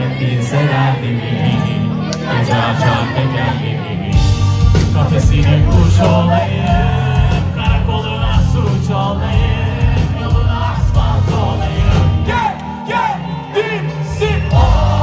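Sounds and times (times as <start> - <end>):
live pop-rock band playing: 0.0 - 15.0.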